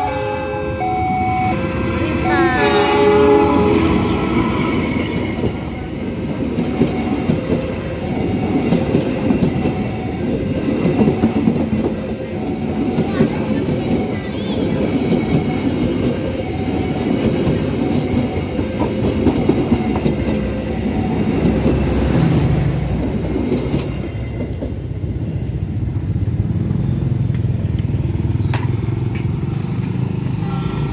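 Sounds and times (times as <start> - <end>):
low train rumble: 0.0 - 30.9.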